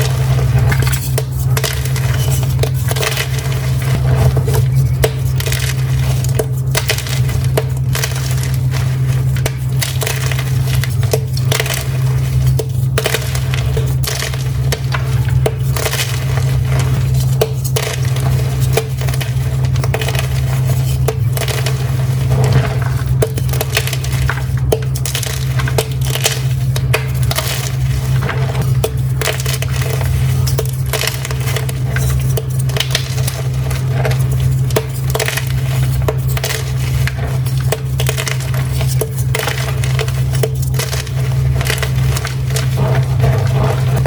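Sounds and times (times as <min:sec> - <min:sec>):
chalk crunching and crumbling: 0:00.0 - 0:44.0
steady low hum: 0:00.0 - 0:44.0.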